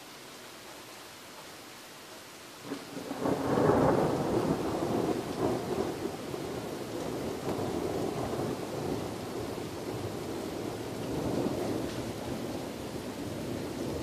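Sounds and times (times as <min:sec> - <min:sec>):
thunder rumbling: 0:02.6 - 0:14.0.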